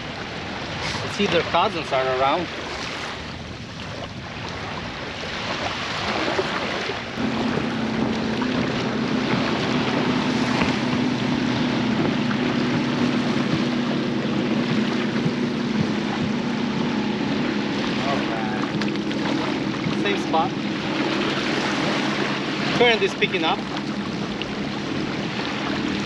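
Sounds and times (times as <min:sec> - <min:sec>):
boat motor humming: 0:00.0 - 0:26.0
water: 0:00.0 - 0:26.0
wind: 0:00.0 - 0:26.0.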